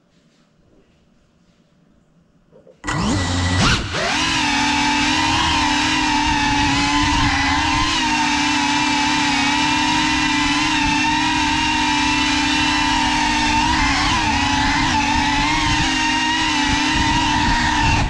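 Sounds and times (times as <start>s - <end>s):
quadcopter motors whining: 2.8s - 18.0s.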